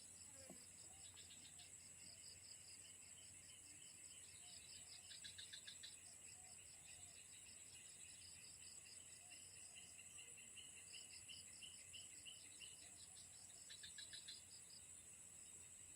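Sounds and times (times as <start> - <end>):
insect chorus buzzing and chirping: 0.0 - 15.9
insect trill: 0.0 - 15.9.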